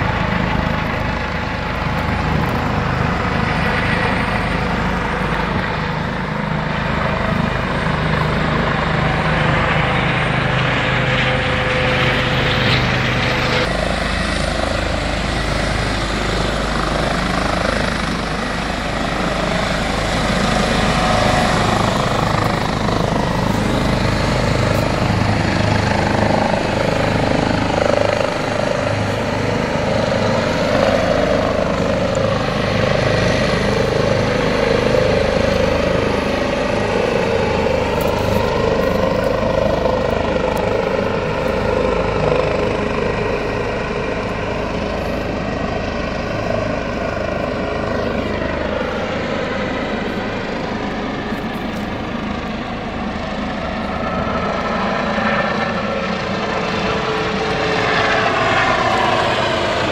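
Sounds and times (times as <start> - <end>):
helicopter flying overhead: 0.0 - 59.9.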